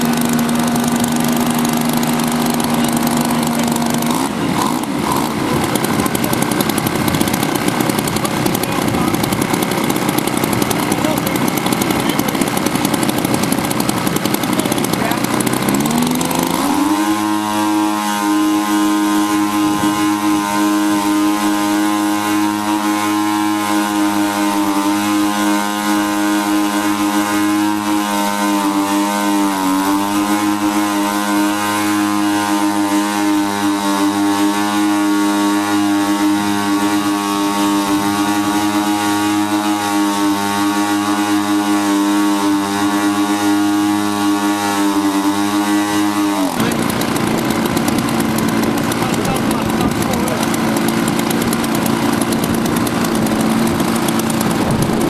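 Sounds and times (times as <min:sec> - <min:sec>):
model aircraft petrol engines revving: 0:00.0 - 0:55.0.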